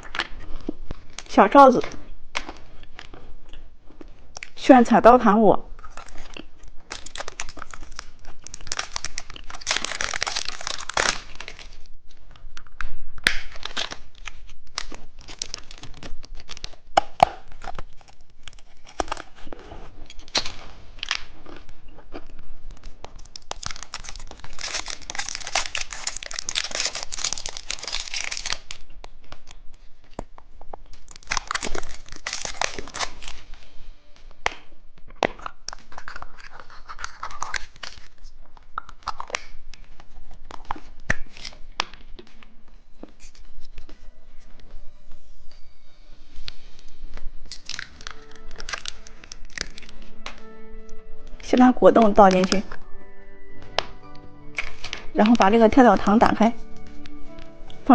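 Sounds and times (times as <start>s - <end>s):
plastic packaging crinkling and tearing: 5.7s - 45.3s, 46.2s - 57.9s.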